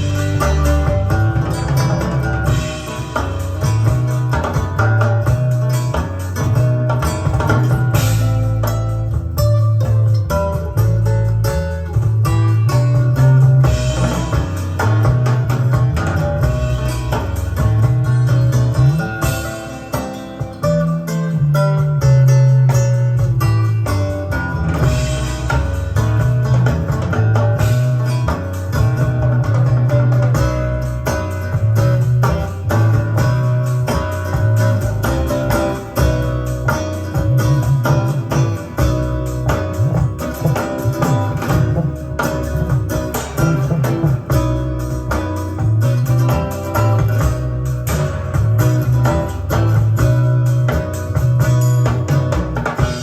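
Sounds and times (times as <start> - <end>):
rock music from cassette tape: 0.0 - 53.0.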